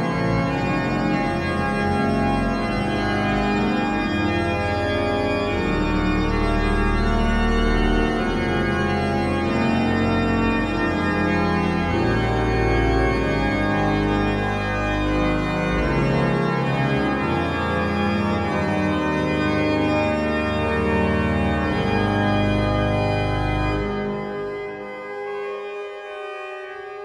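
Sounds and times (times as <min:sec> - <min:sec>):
deep organ pedal bass notes: 0:00.0 - 0:27.0
pipe organ chords: 0:00.0 - 0:27.0.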